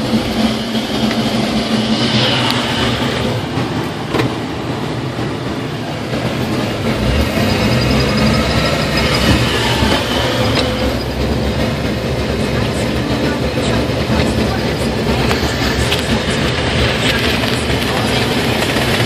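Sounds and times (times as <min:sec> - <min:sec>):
moving vehicle rumble: 0:00.0 - 0:19.0.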